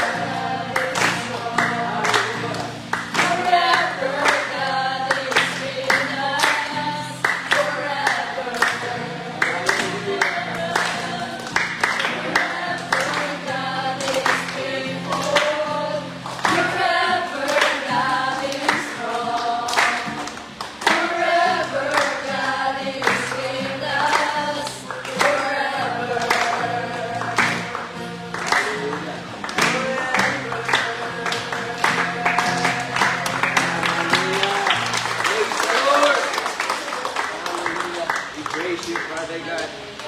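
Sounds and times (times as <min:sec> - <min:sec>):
group singing: 0:00.0 - 0:35.0.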